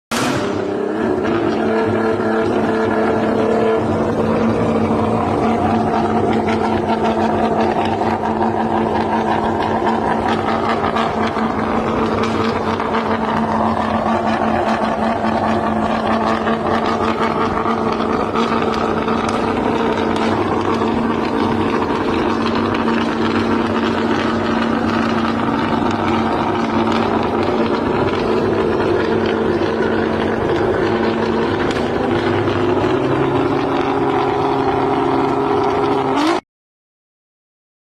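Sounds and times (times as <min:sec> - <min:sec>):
car engine running loudly: 0:00.1 - 0:36.4.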